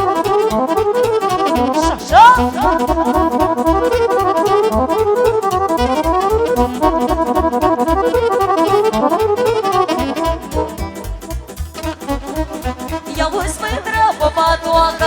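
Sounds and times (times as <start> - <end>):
accordion melodic runs: 0.0 - 15.0
driving bass beat: 0.0 - 15.0
violin: 0.0 - 15.0.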